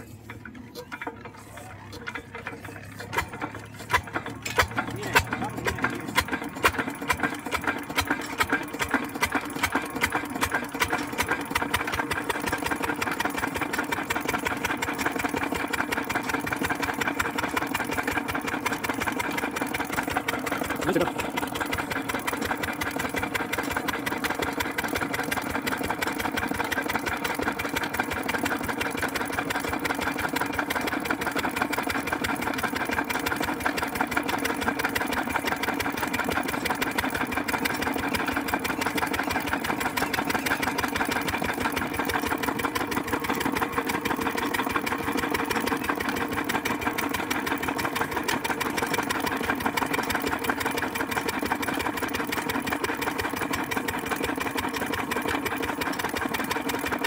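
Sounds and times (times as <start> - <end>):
diesel engine running with rapid beat: 0.0 - 57.0.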